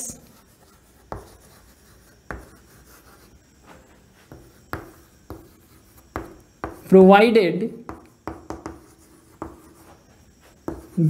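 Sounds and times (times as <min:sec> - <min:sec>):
chalk scratching on chalkboard: 0:00.0 - 0:07.0, 0:07.9 - 0:11.0
chalk tapping on board: 0:00.3 - 0:03.4, 0:04.2 - 0:06.9, 0:07.8 - 0:11.0.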